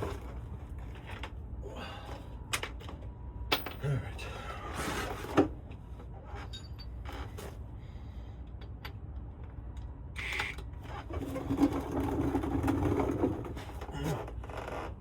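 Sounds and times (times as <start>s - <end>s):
muffled rumbling handling noise: 0.0s - 15.0s.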